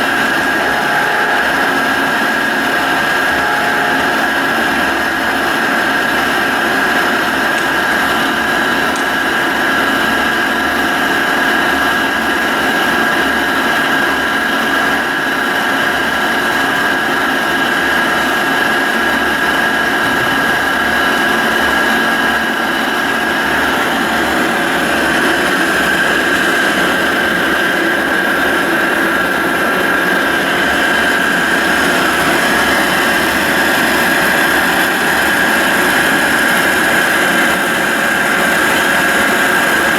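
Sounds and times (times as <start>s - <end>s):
drill press motor whine: 0.0s - 39.9s.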